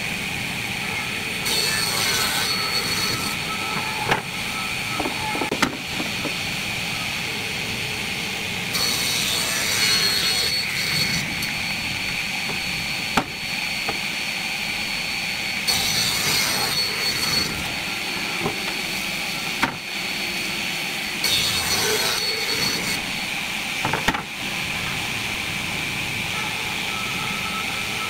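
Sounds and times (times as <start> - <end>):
table saw blade whining: 0.8 - 28.0
saw cutting wooden board: 0.9 - 25.0.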